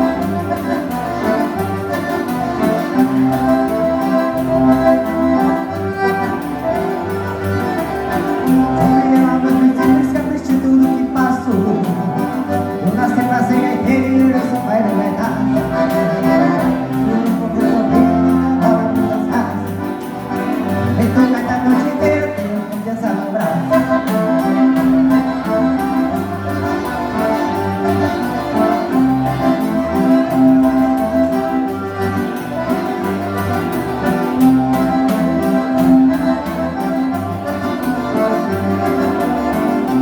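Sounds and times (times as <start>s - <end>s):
button accordion melody: 0.0s - 40.0s.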